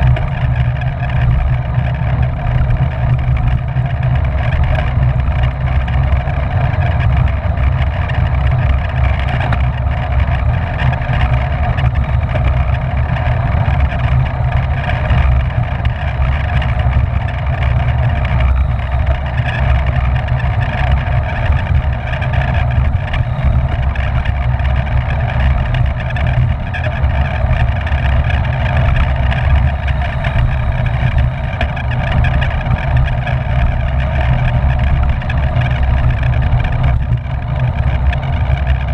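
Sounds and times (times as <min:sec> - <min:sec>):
constant whirring: 0:00.0 - 0:38.9
wind buffeting microphone: 0:00.0 - 0:38.9.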